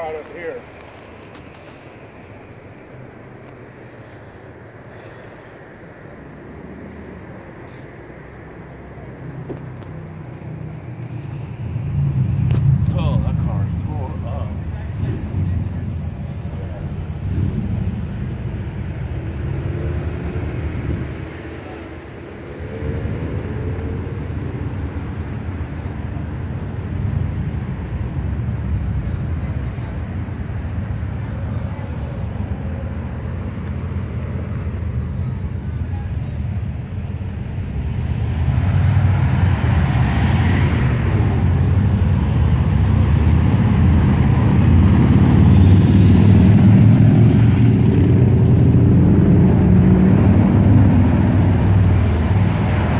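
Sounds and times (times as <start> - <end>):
road and tyre hiss: 0.0 - 52.9
vehicle engine rumble: 0.0 - 52.9.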